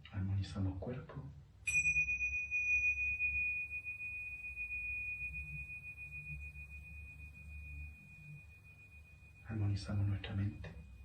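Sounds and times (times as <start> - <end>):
struck metal instrument ringing: 1.7 - 11.0.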